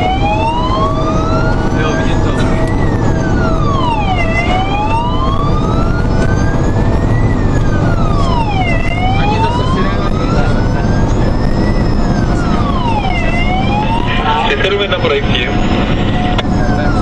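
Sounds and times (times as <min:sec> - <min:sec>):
fire engine siren wailing: 0:00.0 - 0:17.0
truck engine and road rumble: 0:00.0 - 0:17.0.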